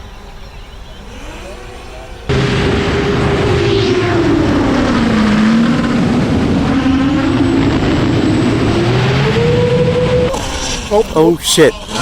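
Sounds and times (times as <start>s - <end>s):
drone motors buzzing whine: 0.9s - 12.0s.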